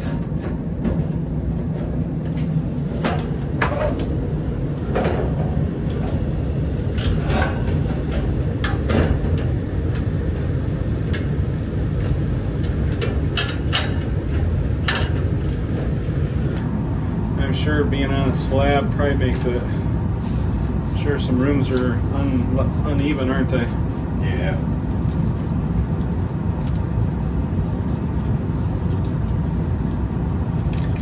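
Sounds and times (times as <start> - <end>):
furnace humming: 0.0 - 31.0.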